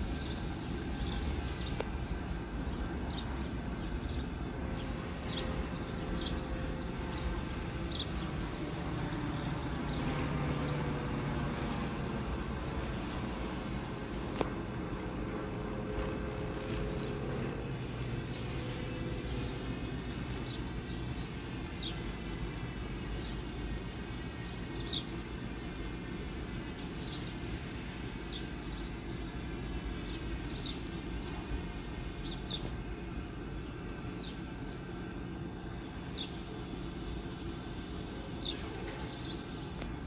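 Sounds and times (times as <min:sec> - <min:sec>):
stationary train humming: 0:00.0 - 0:40.0.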